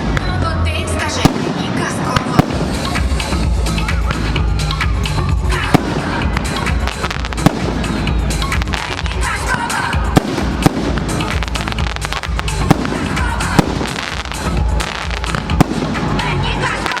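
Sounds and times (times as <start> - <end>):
fireworks bangs: 0.0 - 3.4, 5.5 - 17.0
fireworks rumbling and crackling: 0.0 - 17.0.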